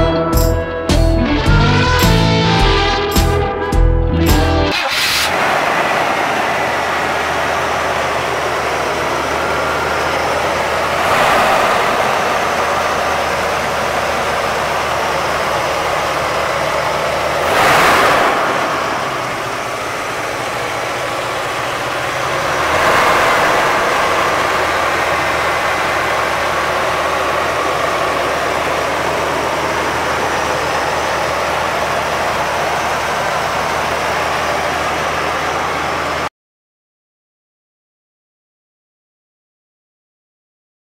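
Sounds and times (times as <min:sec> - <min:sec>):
truck engine idling: 0:00.0 - 0:36.3.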